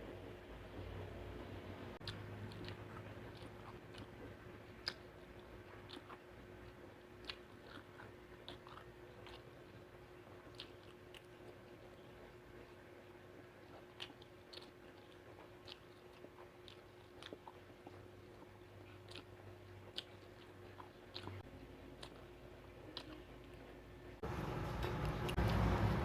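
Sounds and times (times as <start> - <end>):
person chewing food: 2.0 - 23.8.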